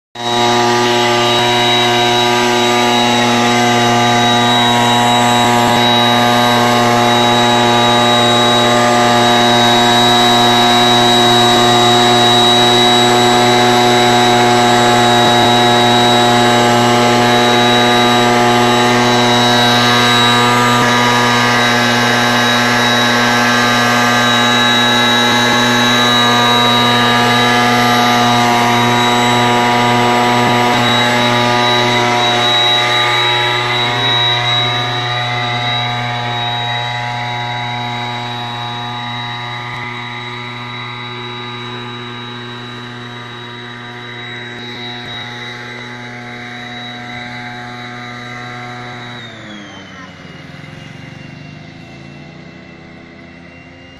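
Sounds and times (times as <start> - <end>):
two-stroke engine running: 0.2 - 53.9.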